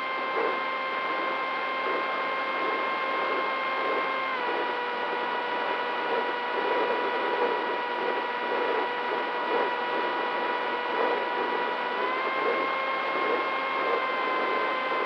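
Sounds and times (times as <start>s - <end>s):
motor high-pitched whine: 0.0s - 15.0s.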